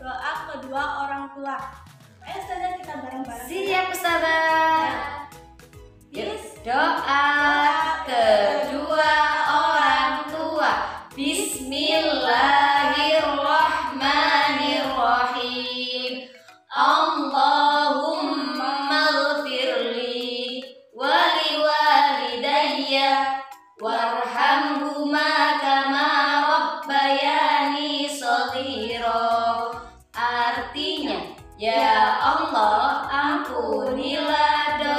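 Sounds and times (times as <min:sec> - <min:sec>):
women chanting a sung prayer: 0:06.2 - 0:16.2, 0:16.8 - 0:34.9.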